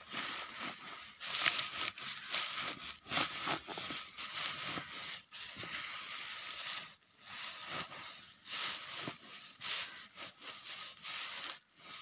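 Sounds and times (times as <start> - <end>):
dry reeds rustling and crackling: 0.0 - 12.0.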